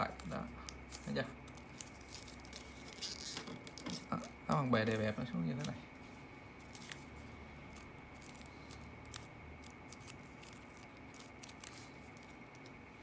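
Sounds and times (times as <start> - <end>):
paper bill crackling while folded: 0.0 - 5.8, 6.6 - 12.8.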